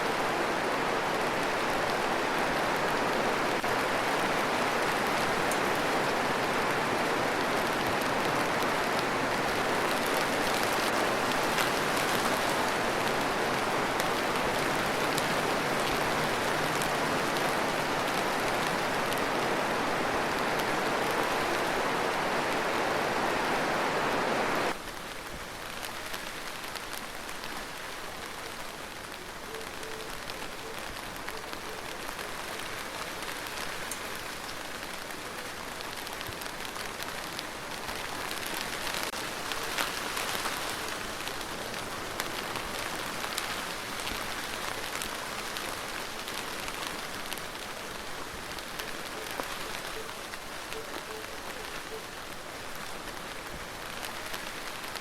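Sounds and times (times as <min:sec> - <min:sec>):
heavy rain: 0:00.0 - 0:55.0
light rain: 0:00.0 - 0:55.0.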